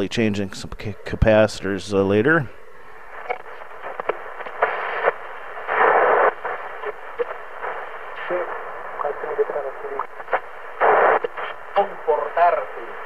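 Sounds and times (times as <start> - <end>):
radio static hiss: 0.0 - 13.0
static crackles: 0.0 - 13.0.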